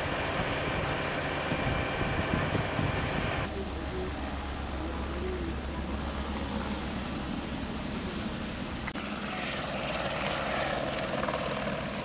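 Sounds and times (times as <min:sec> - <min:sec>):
helicopter flying low: 0:00.0 - 0:12.0
outdoor noise: 0:00.0 - 0:12.0.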